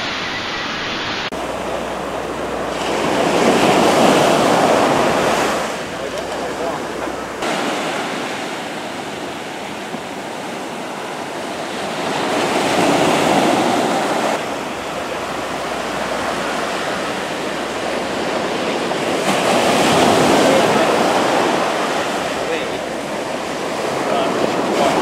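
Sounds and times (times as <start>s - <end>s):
small waves breaking on sand: 0.0s - 25.0s.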